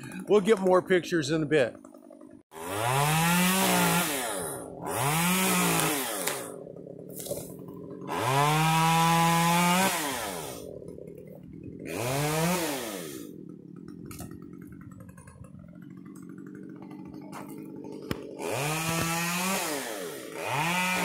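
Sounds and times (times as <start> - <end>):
chainsaw revving: 0.0 - 0.8, 1.4 - 21.0.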